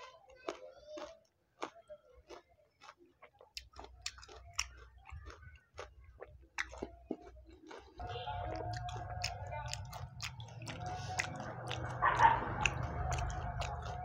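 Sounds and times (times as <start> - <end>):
wet chewing with crunches: 0.0 - 14.0.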